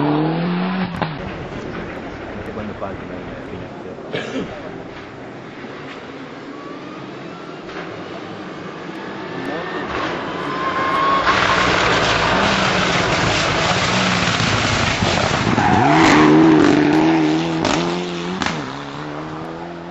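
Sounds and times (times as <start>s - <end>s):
rally car engine revving: 0.0s - 6.1s, 7.0s - 19.9s
tyres skidding: 0.0s - 19.9s.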